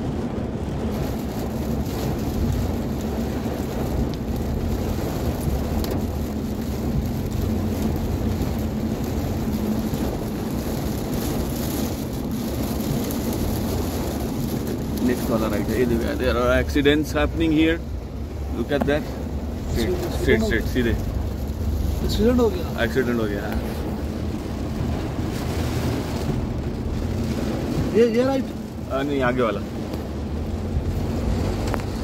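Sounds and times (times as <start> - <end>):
car driving on wet road: 0.0 - 32.0
heavy rain on a car: 0.0 - 32.0.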